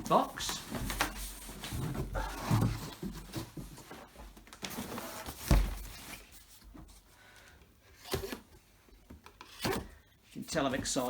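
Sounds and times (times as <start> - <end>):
cardboard rustling and scraping: 0.0 - 7.1, 7.9 - 11.0.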